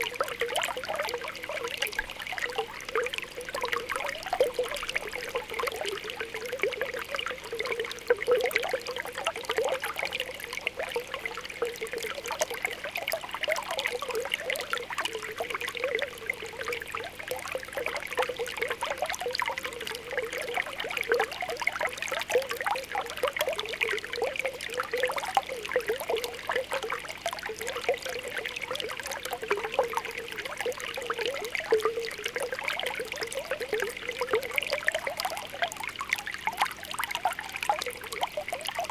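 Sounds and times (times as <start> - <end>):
spring water bubbling: 0.0 - 38.9.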